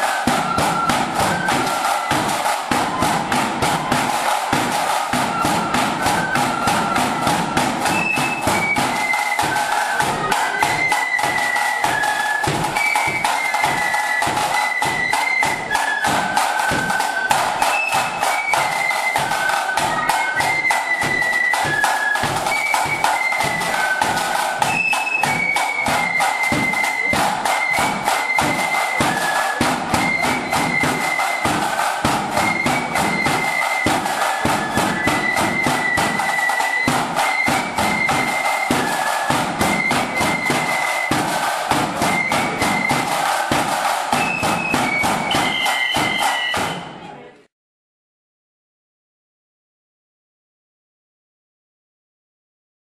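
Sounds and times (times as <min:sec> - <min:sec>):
bass drum and side drums beat: 0:00.0 - 0:46.9
flutes playing a march tune: 0:00.0 - 0:47.0.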